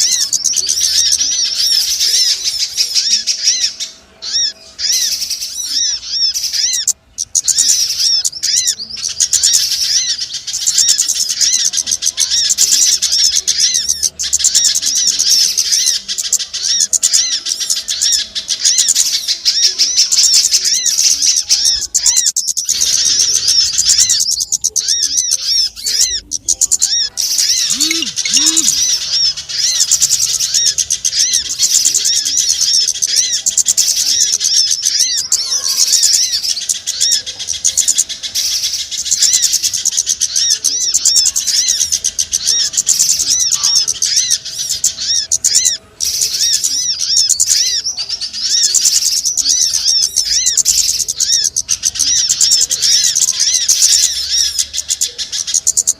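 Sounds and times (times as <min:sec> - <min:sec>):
songbirds chirping chorus: 0:00.0 - 0:55.9.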